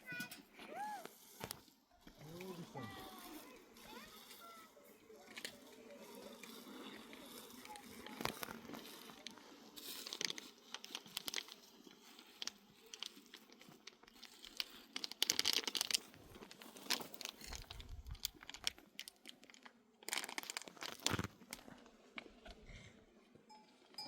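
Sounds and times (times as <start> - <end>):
rustling and crackling: 0.0 - 22.9.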